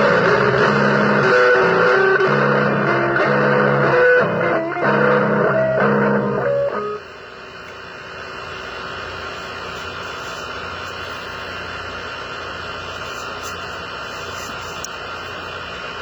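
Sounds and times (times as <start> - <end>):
guitar amplifier hiss and hum: 0.0 - 16.0.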